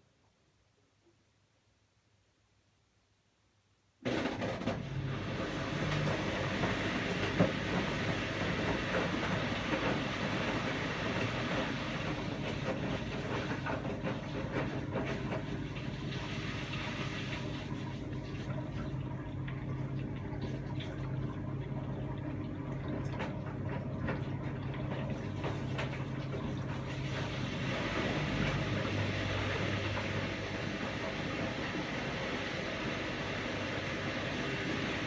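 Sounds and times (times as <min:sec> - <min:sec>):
washing machine running: 0:04.0 - 0:35.0.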